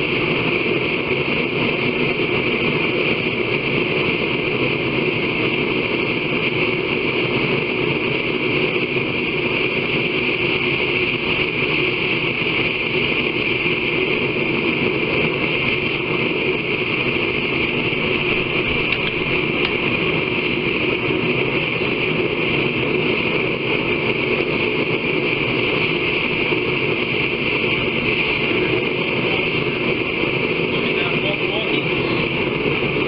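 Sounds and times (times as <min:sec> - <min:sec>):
forge air rushing: 0:00.0 - 0:33.0.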